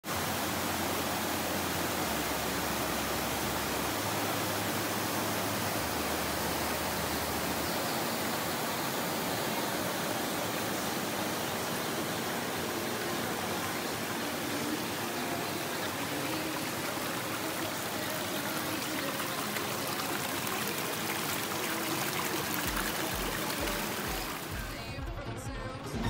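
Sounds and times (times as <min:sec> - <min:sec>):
water rushing over rocks: 0:00.0 - 0:24.8.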